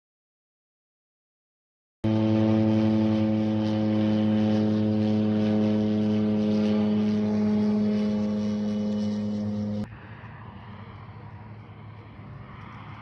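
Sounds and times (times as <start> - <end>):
propeller plane engine drone: 2.0 - 13.0.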